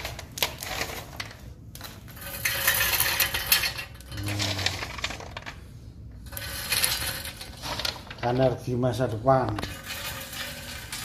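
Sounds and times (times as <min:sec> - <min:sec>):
wood pellets rattling against metal: 0:00.0 - 0:11.0.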